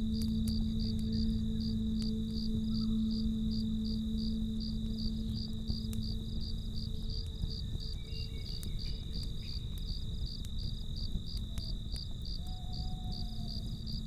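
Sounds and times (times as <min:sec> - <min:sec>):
campfire crackling: 0:00.0 - 0:14.0
crickets chirping: 0:00.0 - 0:14.0.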